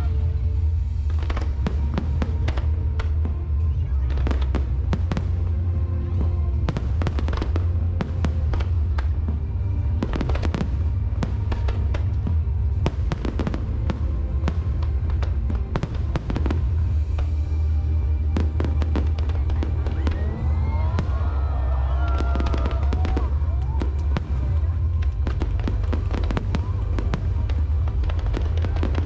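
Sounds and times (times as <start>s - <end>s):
deep rumble: 0.0s - 29.0s
fireworks cracks and bangs: 0.0s - 29.0s.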